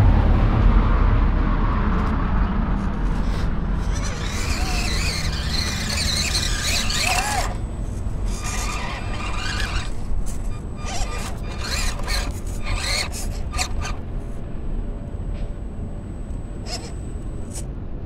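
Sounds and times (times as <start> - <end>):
steady low rumble: 0.0 - 18.0
small electric motor whirring: 3.0 - 17.7.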